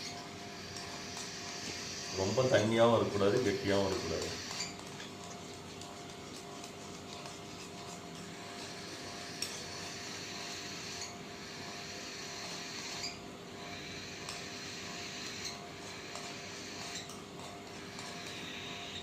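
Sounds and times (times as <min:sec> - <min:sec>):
spoon stirring in a cup: 0:00.0 - 0:11.2, 0:14.2 - 0:19.0.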